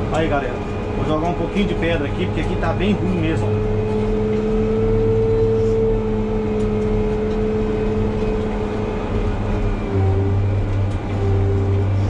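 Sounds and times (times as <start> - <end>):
grader diesel engine under load: 0.0 - 12.0
steady mechanical whine: 0.0 - 12.0.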